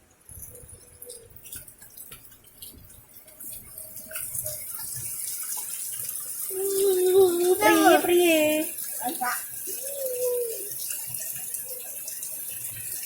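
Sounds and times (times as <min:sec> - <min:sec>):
rainwater pouring and splashing: 0:00.0 - 0:13.0.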